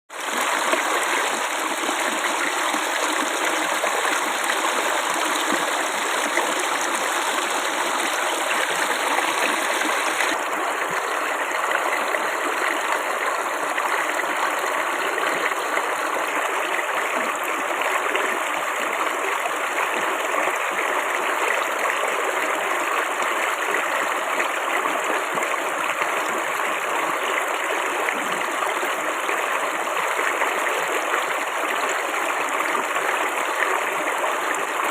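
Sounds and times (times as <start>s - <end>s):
water babbling: 0.1s - 34.9s.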